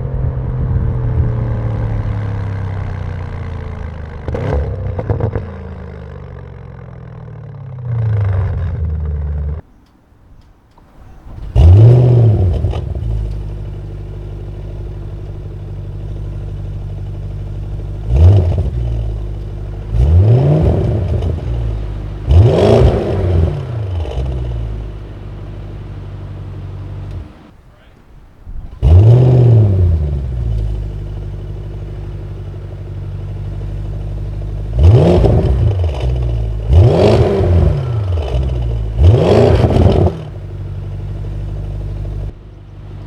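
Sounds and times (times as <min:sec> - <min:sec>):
car exhaust idling with rev blips: 0:00.0 - 0:43.0.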